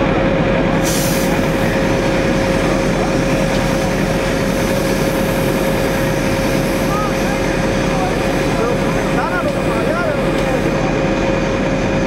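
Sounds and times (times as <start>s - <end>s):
fire engine pump rumble: 0.0s - 12.0s.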